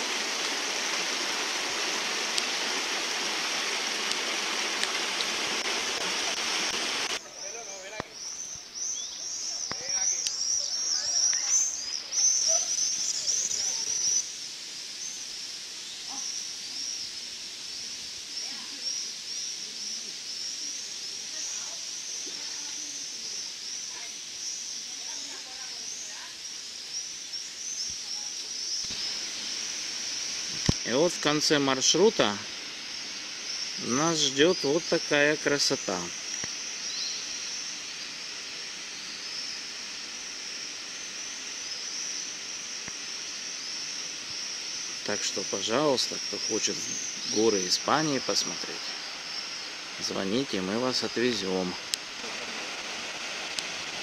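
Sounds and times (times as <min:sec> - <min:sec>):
background hiss: 0:00.0 - 0:54.0
cicadas rasping: 0:00.0 - 0:54.0
insects chirping chorus: 0:00.0 - 0:54.0.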